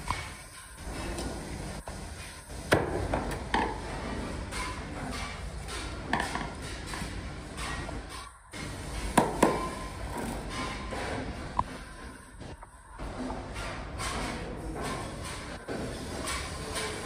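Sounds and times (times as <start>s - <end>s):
workshop noise: 0.0s - 17.0s.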